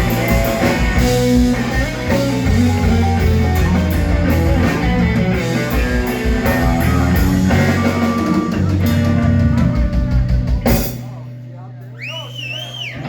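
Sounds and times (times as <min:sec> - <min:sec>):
blues-rock band playing: 0:00.0 - 0:13.0.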